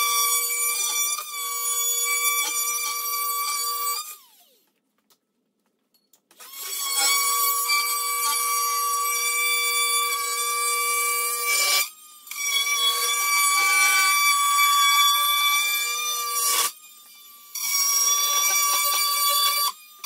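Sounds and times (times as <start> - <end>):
oscillating multi-tool whine: 0.0 - 4.7, 6.4 - 20.0.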